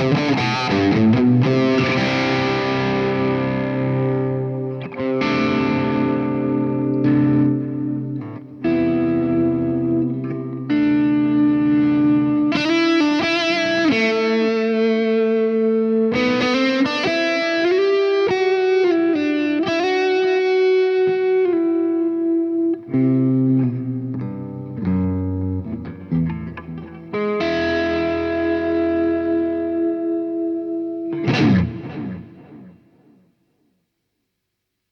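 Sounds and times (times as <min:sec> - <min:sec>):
overdriven electric guitar: 0:00.0 - 0:33.6.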